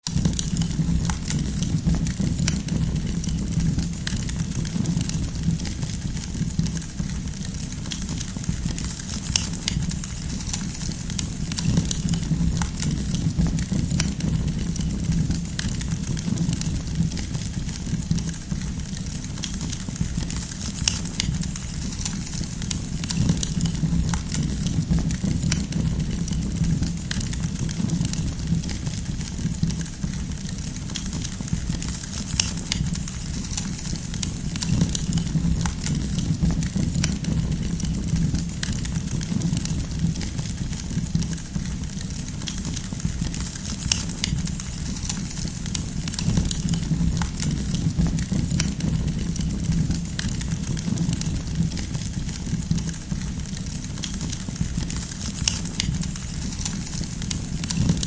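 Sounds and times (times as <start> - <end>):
campfire crackling and popping: 0.0 - 58.0
campfire low rumble: 0.0 - 58.0.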